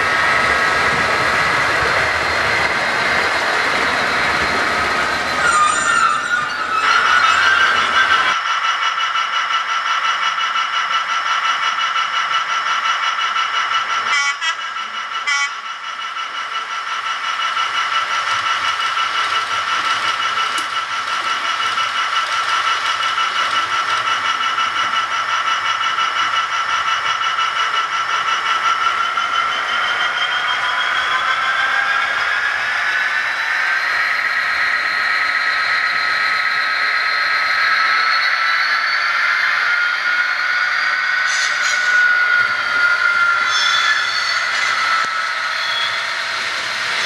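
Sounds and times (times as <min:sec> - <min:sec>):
model locomotive humming: 0:00.0 - 0:47.0.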